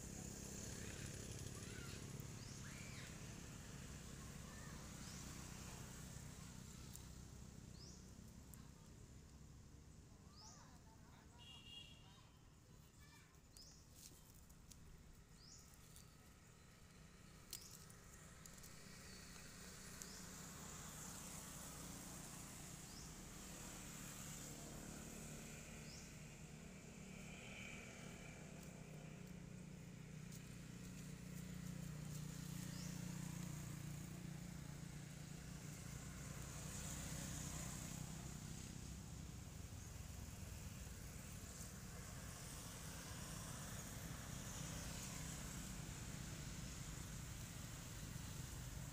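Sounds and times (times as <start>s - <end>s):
road traffic hum: 0.0s - 48.9s.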